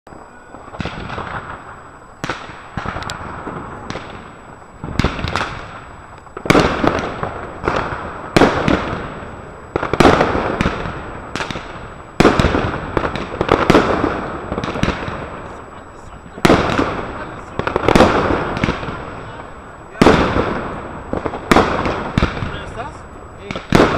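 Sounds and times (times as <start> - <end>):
firework bangs with crackling tails: 0.1 - 23.9.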